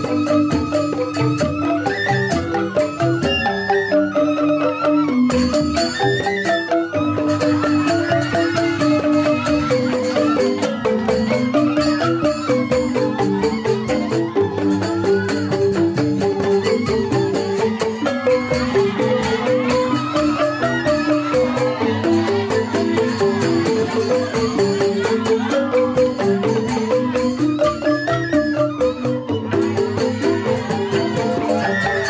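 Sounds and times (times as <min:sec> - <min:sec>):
bamboo xylophones interlocking: 0:00.0 - 0:32.0
hand drums keeping beat: 0:00.0 - 0:32.0.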